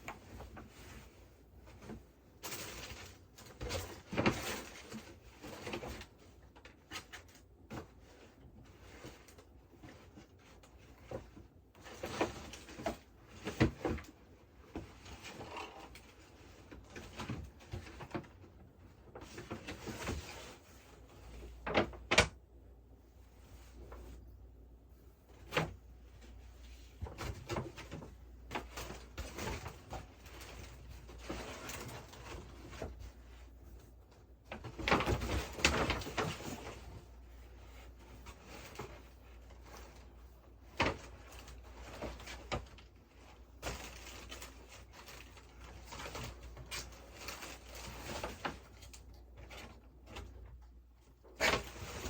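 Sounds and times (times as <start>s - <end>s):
rustling and scraping on desk: 0.0s - 22.4s, 23.0s - 52.0s.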